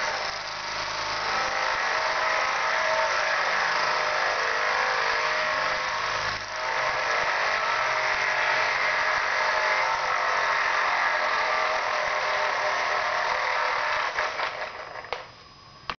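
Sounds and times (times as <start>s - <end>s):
toy helicopter whirring: 0.0s - 15.3s.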